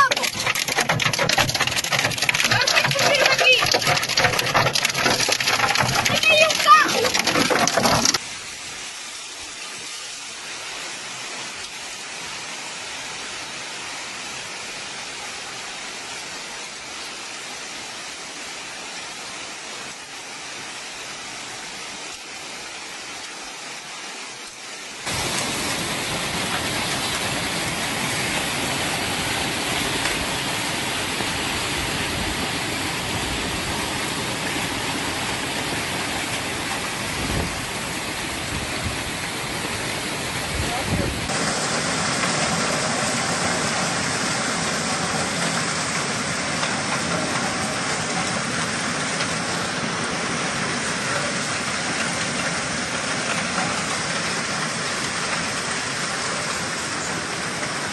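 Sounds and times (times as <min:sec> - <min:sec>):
heavy rain: 0:00.0 - 0:57.9
rushing floodwater: 0:00.0 - 0:57.9.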